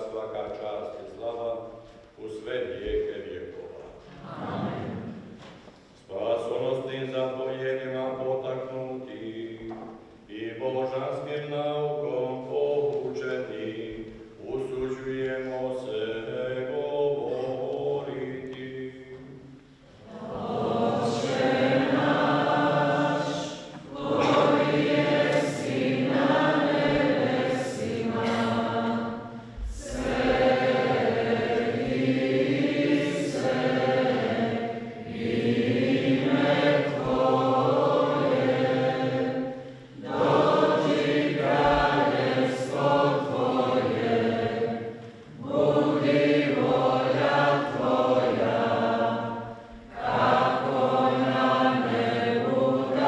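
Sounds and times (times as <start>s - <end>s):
choir singing a hymn: 4.1s - 5.6s, 6.2s - 53.0s.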